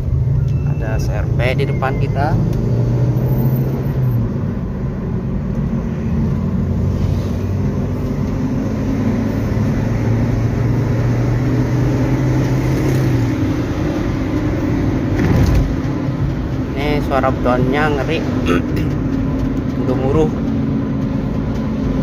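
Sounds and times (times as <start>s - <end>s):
car engine humming: 0.0s - 22.0s
tyres rumbling on road: 0.0s - 22.0s.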